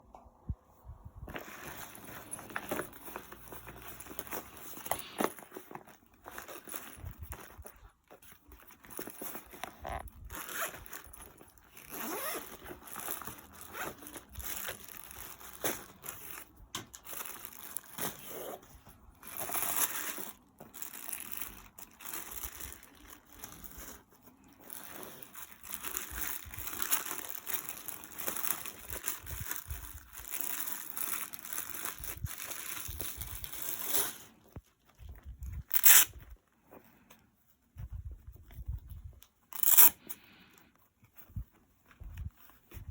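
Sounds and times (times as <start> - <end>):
packaging rustling and crinkling: 1.2 - 42.9.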